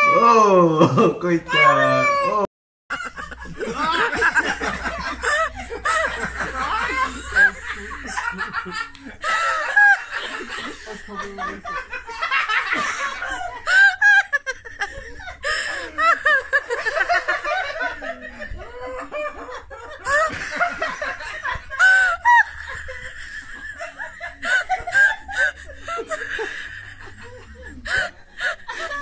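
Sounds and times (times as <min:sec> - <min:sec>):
people laughing hard: 0:02.9 - 0:29.0.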